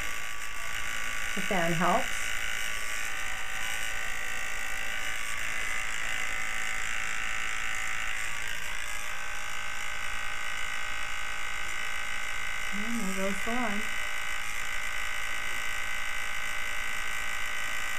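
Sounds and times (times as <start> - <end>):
electric fan whirring: 0.0 - 17.9.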